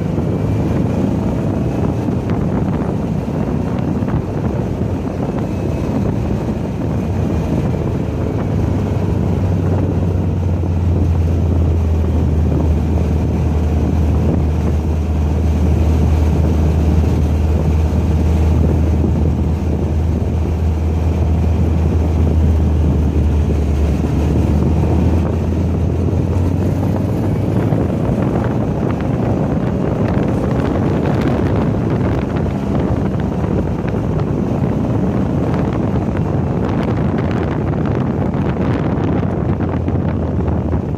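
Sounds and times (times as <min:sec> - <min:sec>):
car engine running: 0:00.0 - 0:40.9
wind buffeting microphone: 0:00.0 - 0:40.9.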